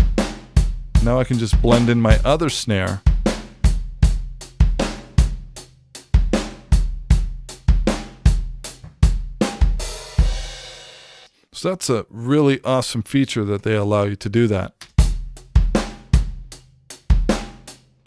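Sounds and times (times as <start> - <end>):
drum kit groove: 0.0 - 11.3, 14.8 - 18.0.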